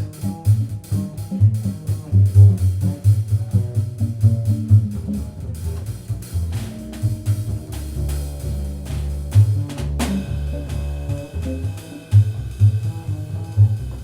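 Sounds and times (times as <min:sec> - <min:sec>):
jazz band playing: 0:00.0 - 0:14.0
plucked double bass: 0:00.0 - 0:14.0.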